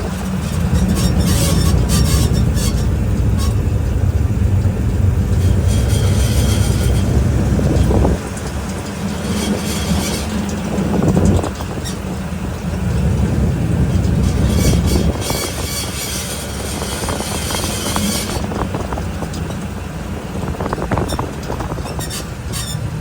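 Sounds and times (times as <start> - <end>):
metallic grinding and scraping: 0.0 - 19.8
tyre and road rumble: 0.0 - 23.0.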